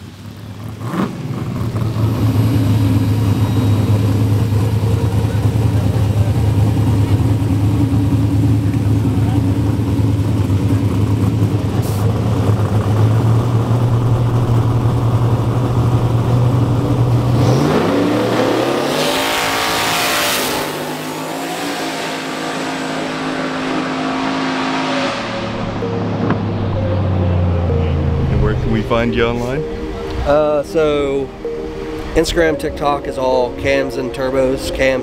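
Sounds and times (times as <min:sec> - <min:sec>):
drag racing engines accelerating: 0:00.0 - 0:35.0.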